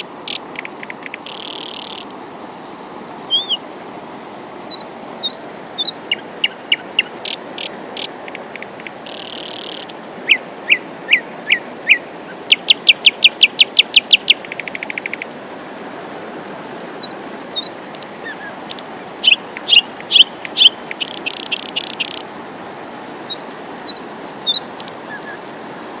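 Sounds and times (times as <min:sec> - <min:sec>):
songbirds chirping: 0:00.0 - 0:15.6, 0:16.6 - 0:25.9
rain hiss: 0:00.0 - 0:26.0.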